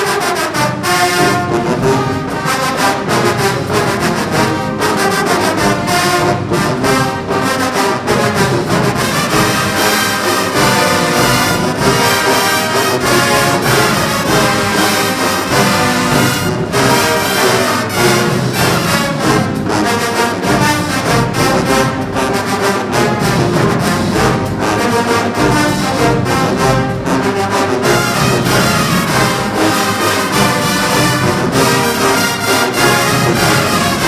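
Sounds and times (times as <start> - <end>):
marching band brass playing: 0.0 - 34.0.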